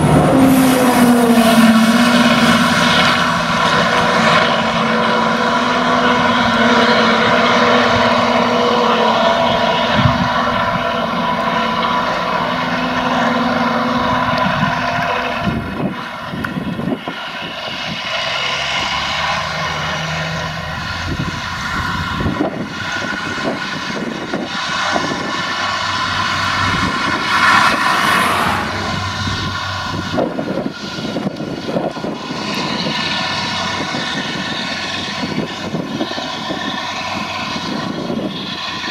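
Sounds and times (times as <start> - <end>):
tractor and mower drone: 0.0 - 38.9.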